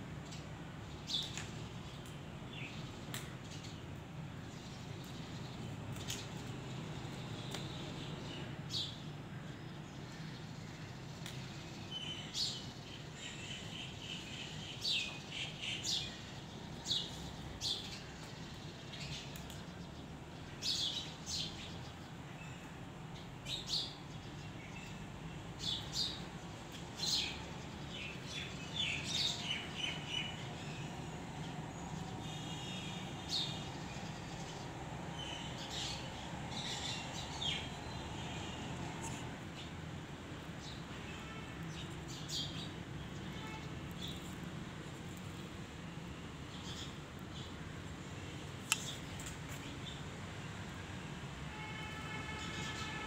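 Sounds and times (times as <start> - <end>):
small birds chirping: 0.2 - 39.8, 40.4 - 45.7, 46.5 - 50.1.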